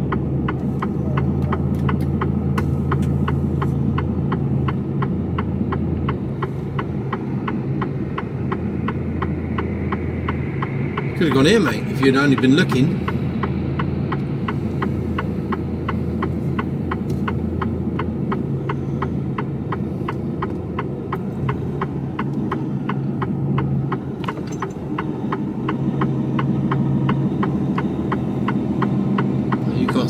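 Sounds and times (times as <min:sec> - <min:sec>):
diesel engine humming: 0:00.0 - 0:30.0
turn signal relay ticking: 0:00.0 - 0:30.0.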